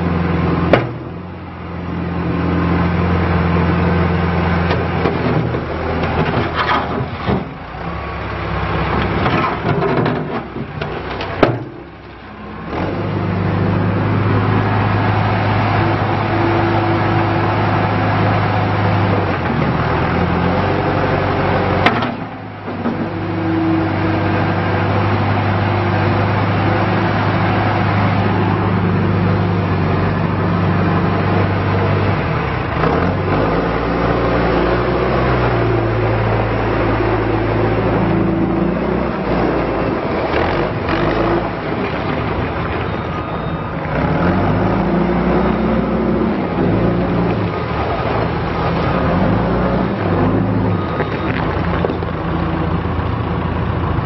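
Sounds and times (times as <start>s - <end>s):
diesel engine under hydraulic load: 0.0s - 54.0s.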